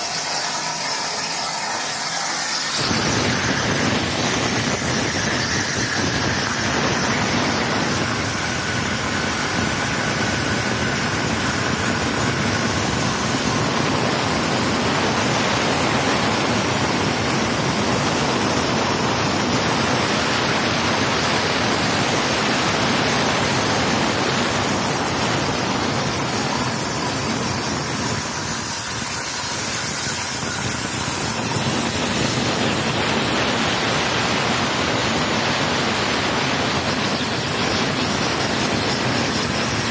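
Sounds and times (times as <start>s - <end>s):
plasma torch cutting steel hiss: 0.0s - 39.9s.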